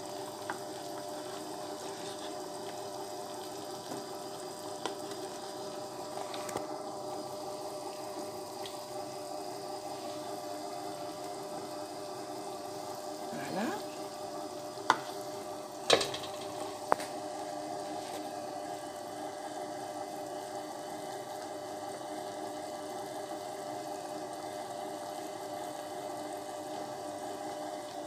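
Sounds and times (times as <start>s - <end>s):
pot of water boiling: 0.0s - 28.0s.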